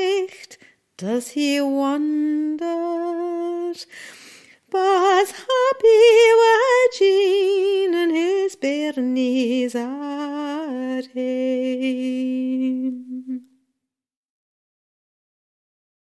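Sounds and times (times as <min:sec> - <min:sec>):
woman singing unaccompanied: 0:00.0 - 0:04.0, 0:04.6 - 0:13.6.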